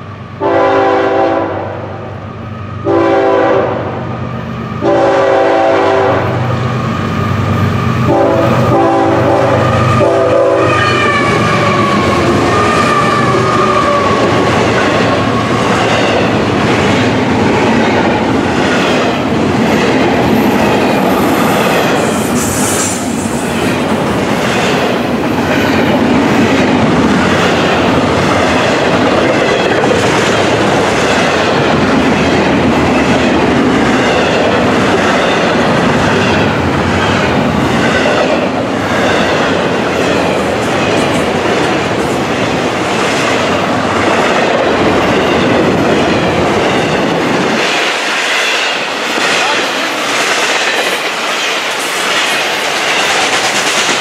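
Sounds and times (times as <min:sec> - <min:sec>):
train wheels rolling on rails: 0:02.2 - 0:54.0
wheels clickety-clack on rail joints: 0:06.5 - 0:54.0.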